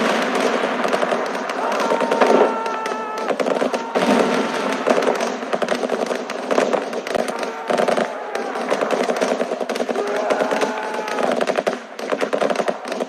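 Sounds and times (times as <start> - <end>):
rapid gunfire volley: 0.0 - 13.0.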